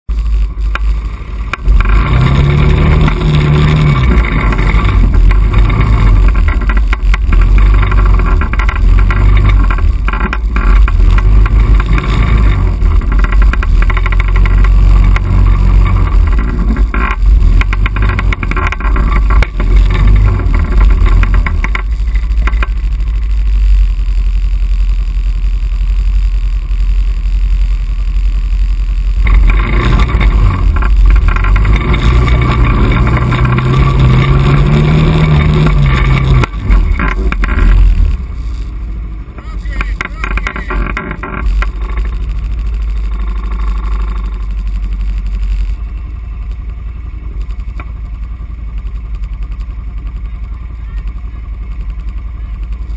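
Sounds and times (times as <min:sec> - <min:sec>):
atv engine revving: 0:00.1 - 0:52.9.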